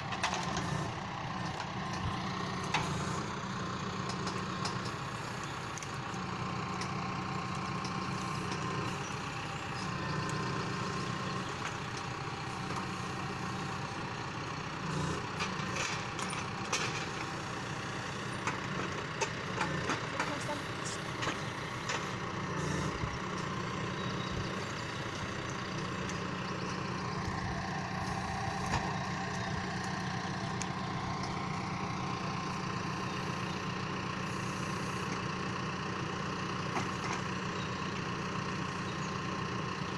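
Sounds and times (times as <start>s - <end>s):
hydraulic crane whine: 0.0s - 35.5s
tractor diesel engine running: 0.0s - 39.9s.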